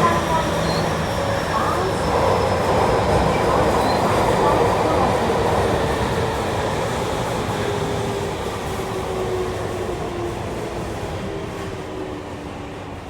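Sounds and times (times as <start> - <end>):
train wheel and rail rumble: 0.0 - 13.0.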